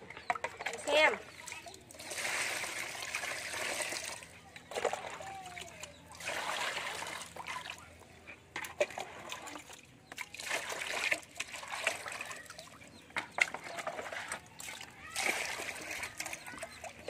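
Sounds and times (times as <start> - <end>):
water poured into plastic basin: 1.3 - 7.8, 8.7 - 12.7, 13.4 - 17.0.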